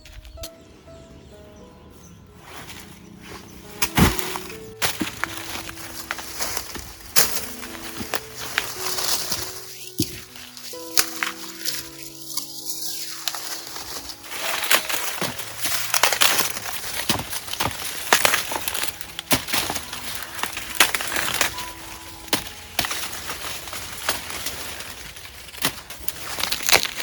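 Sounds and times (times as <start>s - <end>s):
dry leaves rustling: 1.8s - 27.0s
stalks snapping: 3.6s - 27.0s.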